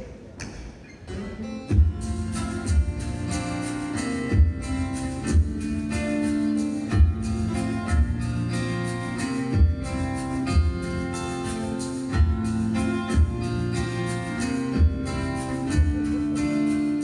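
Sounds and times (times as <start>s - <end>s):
acoustic guitars playing: 0.7s - 17.0s.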